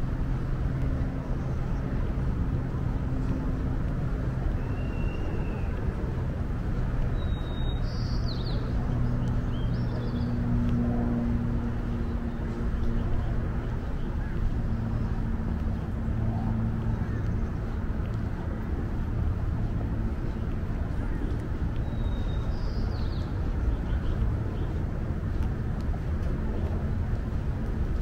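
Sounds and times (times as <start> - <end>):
low engine hum: 0.0 - 28.0.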